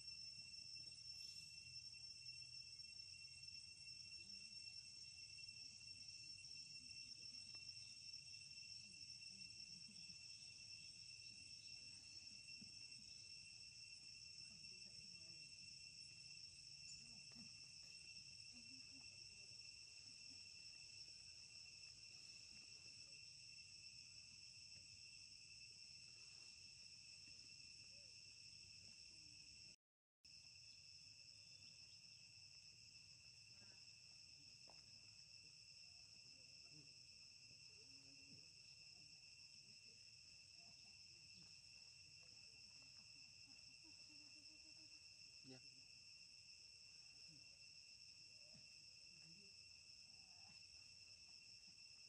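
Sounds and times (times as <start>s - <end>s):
shrill insect chorus: 0.0s - 52.0s.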